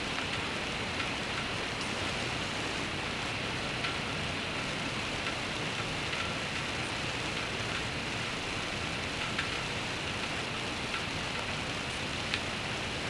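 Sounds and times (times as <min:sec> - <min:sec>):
rain hissing on a surface: 0:00.0 - 0:13.0.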